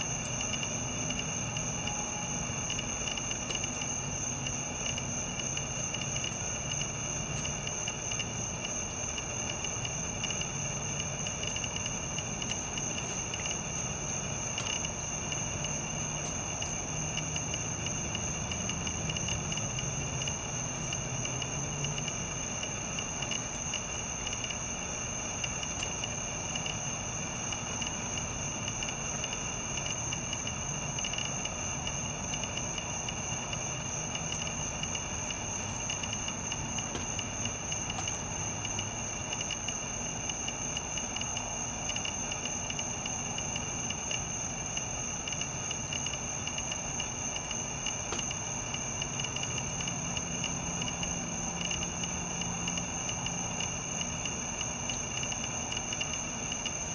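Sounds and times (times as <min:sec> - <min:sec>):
night insects trilling: 0:00.0 - 0:56.9.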